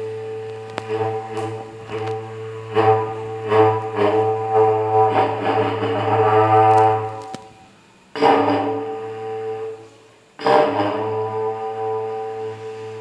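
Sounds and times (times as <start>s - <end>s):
horn blown in droning blasts: 0.0s - 13.0s.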